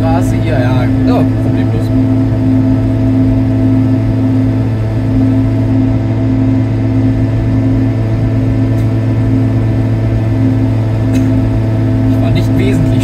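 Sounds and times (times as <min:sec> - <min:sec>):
two-stroke engine droning: 0:00.0 - 0:13.0.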